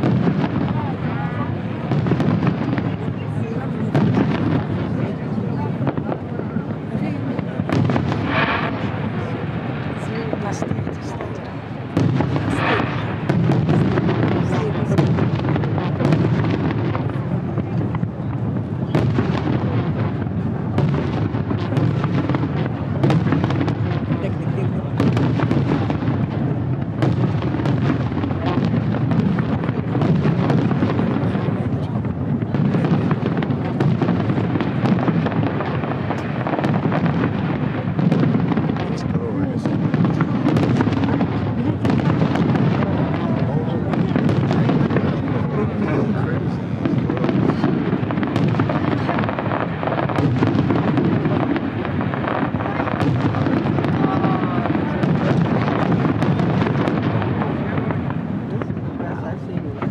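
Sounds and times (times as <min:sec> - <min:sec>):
sharp firework cracks: 0:00.0 - 0:05.0, 0:05.6 - 0:59.9
fireworks bursting: 0:00.0 - 0:59.9.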